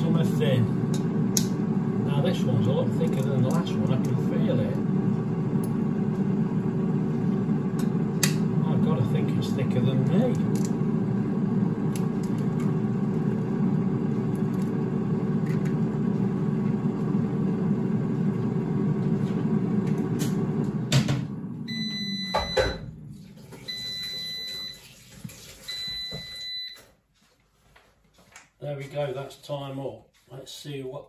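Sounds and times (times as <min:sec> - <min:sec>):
air fryer fan running: 0:00.0 - 0:24.9.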